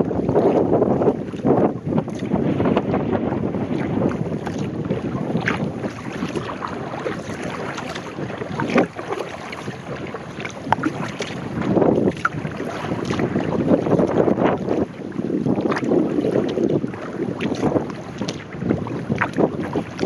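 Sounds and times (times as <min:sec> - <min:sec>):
kayak paddle strokes splashing: 0:00.0 - 0:20.0
water sloshing against hull: 0:00.0 - 0:20.0
wind buffeting microphone: 0:00.0 - 0:20.0.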